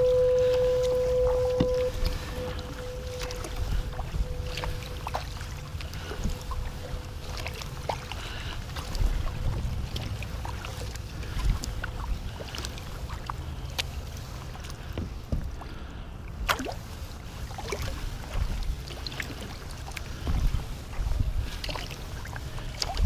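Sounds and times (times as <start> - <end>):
paddle splashes and drips: 0.0 - 23.0
steady low rumble: 0.0 - 23.0.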